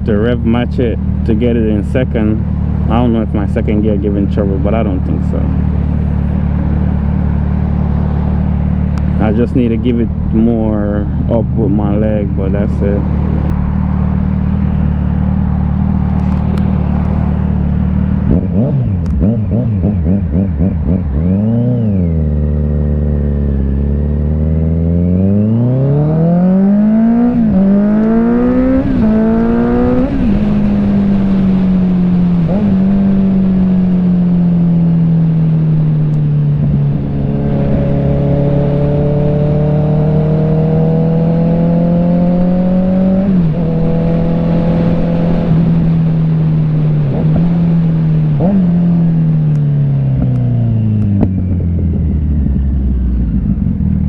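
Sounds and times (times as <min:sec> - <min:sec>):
motorcycle engine revving and accelerating: 0:00.0 - 0:54.0.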